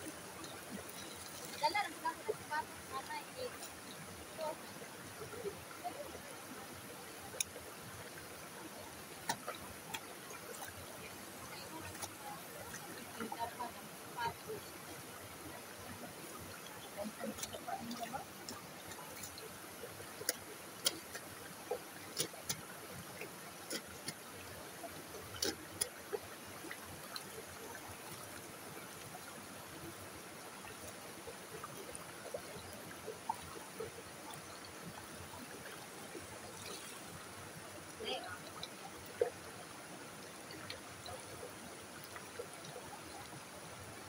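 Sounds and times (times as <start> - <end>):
creek water running: 0.0 - 44.0.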